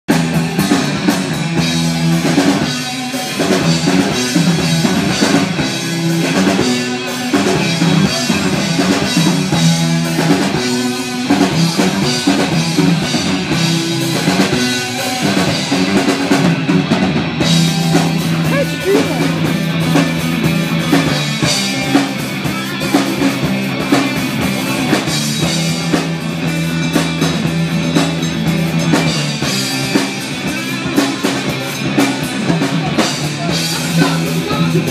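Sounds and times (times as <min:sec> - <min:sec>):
drum kit beat: 0:00.1 - 0:34.9
live rock band: 0:00.1 - 0:34.9.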